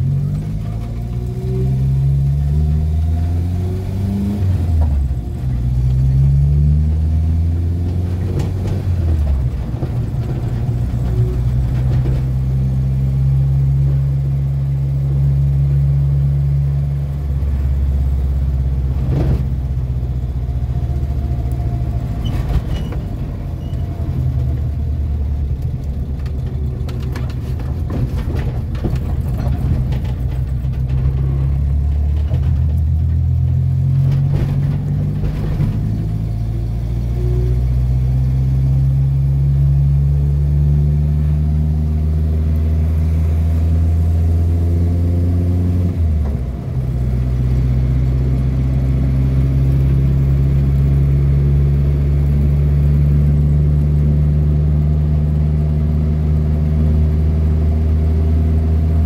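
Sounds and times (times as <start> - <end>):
car engine driving: 0.0 - 59.0.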